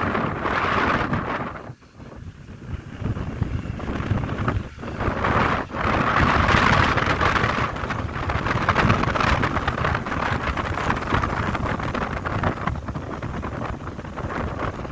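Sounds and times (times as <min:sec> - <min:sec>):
freight train rumbling: 0:00.0 - 0:14.9
wind buffeting microphone: 0:00.0 - 0:14.9.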